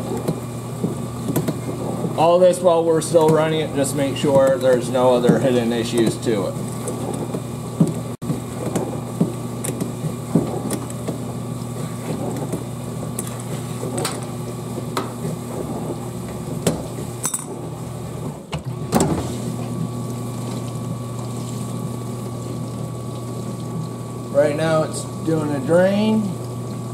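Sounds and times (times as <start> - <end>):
dishwasher pump humming: 0.0 - 26.9.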